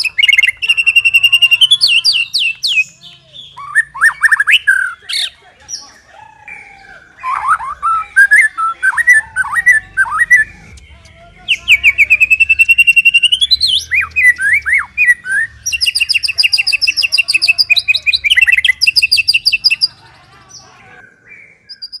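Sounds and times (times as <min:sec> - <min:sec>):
bird singing whistled notes: 0:00.0 - 0:19.9, 0:21.0 - 0:22.0.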